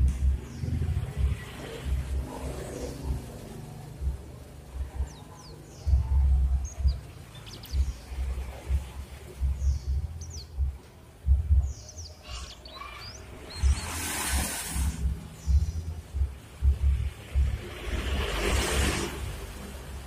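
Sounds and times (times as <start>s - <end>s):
low rumbling: 0.0s - 20.0s
small birds chirping: 0.0s - 20.0s.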